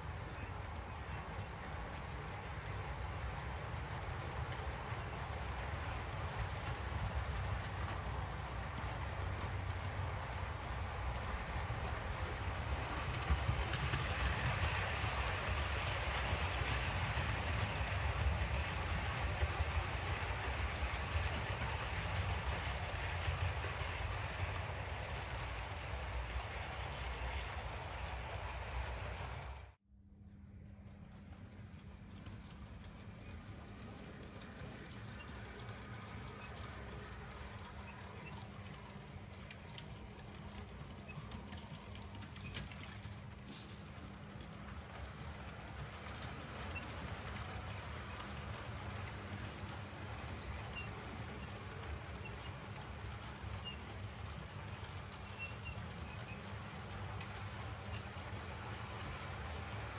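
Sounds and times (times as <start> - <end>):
wheels rattling on rails: 0.0 - 29.8, 30.7 - 59.9.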